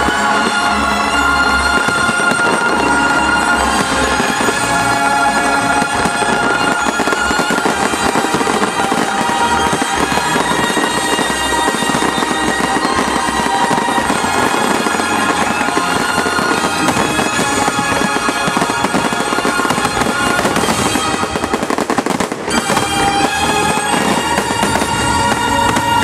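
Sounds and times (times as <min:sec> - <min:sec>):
fireworks bursting and crackling: 0:00.0 - 0:26.0
music playing: 0:00.0 - 0:26.0.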